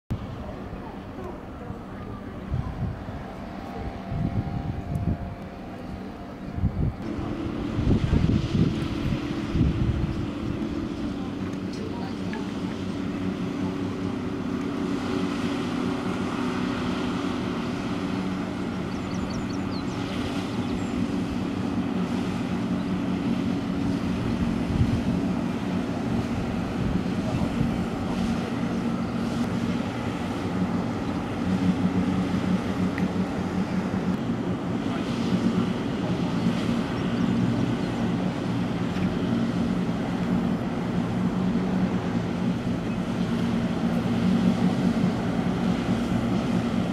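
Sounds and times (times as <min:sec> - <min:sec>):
boat engines droning: 0:00.1 - 0:46.9
rush of boat wake: 0:00.1 - 0:46.9.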